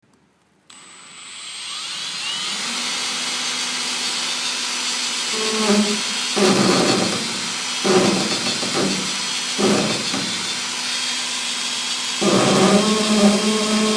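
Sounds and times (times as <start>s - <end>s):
cordless drill running: 0.7s - 13.9s
drill chuck rattling grind: 0.7s - 13.9s.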